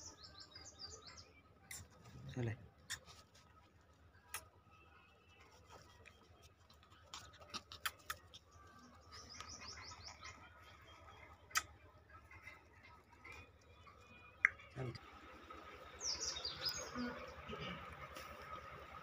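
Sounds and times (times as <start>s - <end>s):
faint bird chirping: 0.0s - 15.0s, 15.6s - 19.0s.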